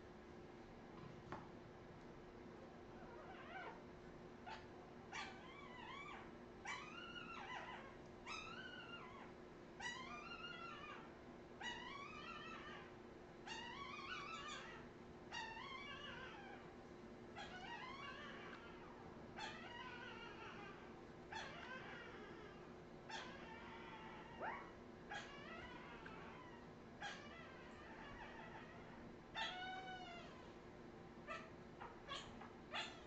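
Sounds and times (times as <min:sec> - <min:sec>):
faint steady hum: 0:00.0 - 0:33.0
puppy crying with high squeals: 0:03.1 - 0:03.8, 0:04.4 - 0:16.6, 0:17.4 - 0:30.5, 0:31.3 - 0:33.0.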